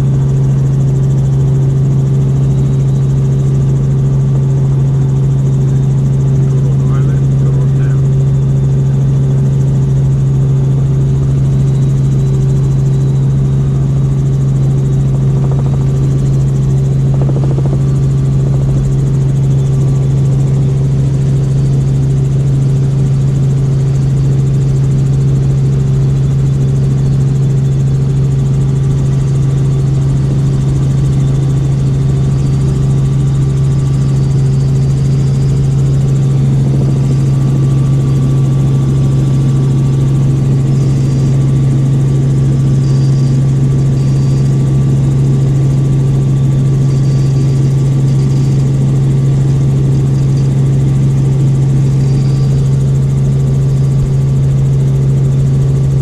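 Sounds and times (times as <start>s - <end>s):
helicopter cabin hum: 0.0s - 56.0s.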